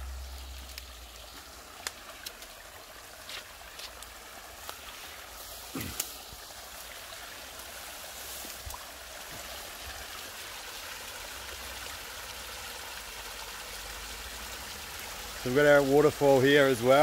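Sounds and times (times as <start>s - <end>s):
small waterfall splashing over rocks: 0.0s - 17.0s.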